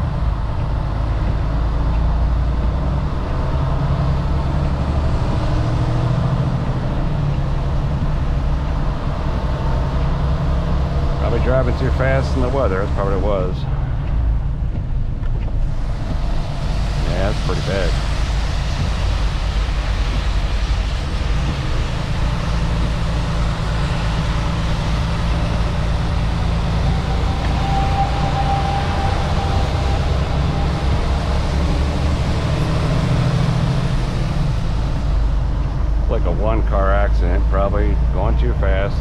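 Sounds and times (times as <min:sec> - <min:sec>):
road hiss on wet highway: 0:00.0 - 0:13.6, 0:15.6 - 0:38.9
truck engine rumble: 0:00.0 - 0:39.0
faint whine: 0:06.3 - 0:39.0.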